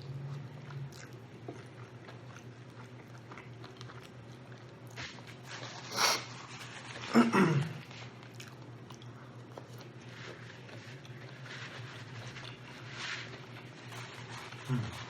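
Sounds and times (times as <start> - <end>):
close chewing and eating: 0.0 - 15.0
steady low hum: 0.0 - 15.0.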